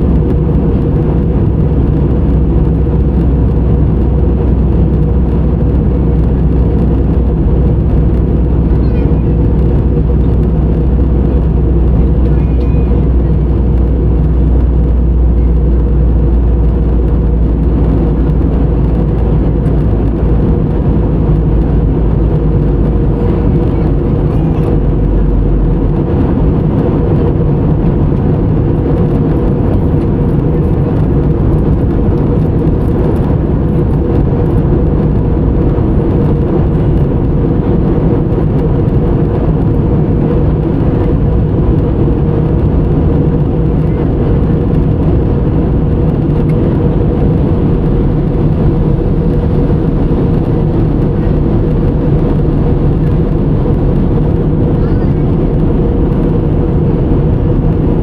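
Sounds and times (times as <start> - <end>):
engine hum: 0.0 - 58.0
jet cabin rumble: 0.0 - 58.0.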